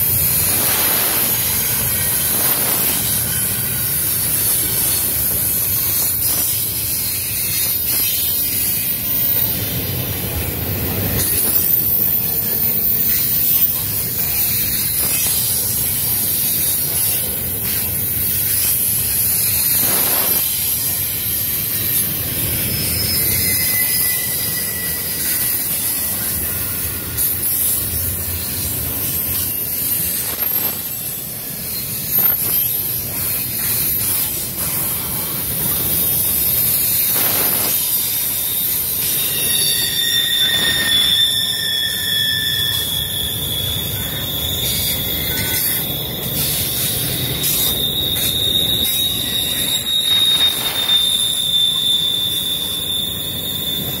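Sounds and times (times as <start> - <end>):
high wheel squeal: 0.0 - 54.0
train wheels rumbling on rail: 0.0 - 54.0.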